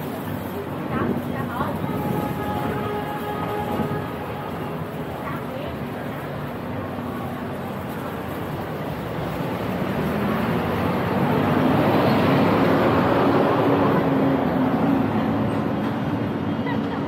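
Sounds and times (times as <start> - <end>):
engine hum and road noise: 0.0 - 17.0.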